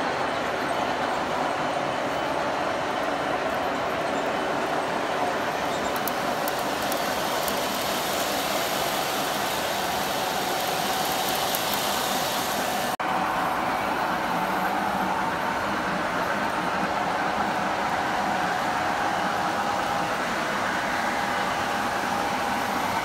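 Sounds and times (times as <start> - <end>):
faint motor whine: 0.0 - 23.0
model train wheels rumbling on track: 0.0 - 23.0.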